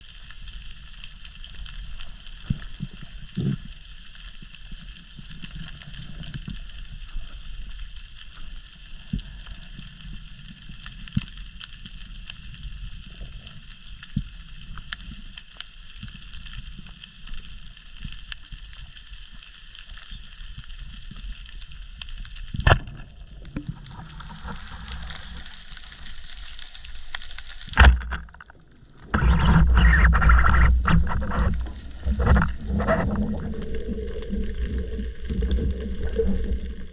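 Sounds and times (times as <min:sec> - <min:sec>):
underwater hiss and rumble: 0:00.0 - 0:36.9
water sloshing and bubbling: 0:00.0 - 0:36.9.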